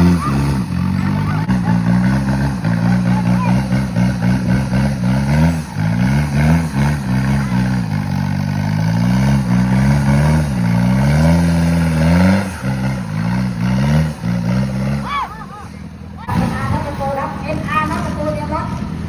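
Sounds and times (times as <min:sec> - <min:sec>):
vehicle engine revving hard: 0:00.0 - 0:19.0.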